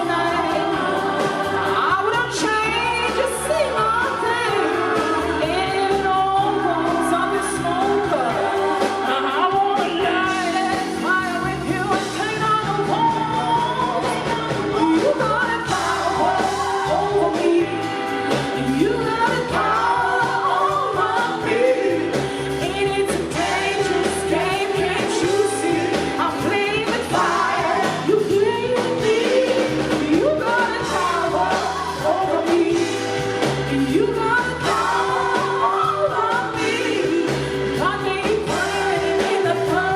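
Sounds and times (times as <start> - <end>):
blues-rock band playing loudly: 0.0 - 39.9.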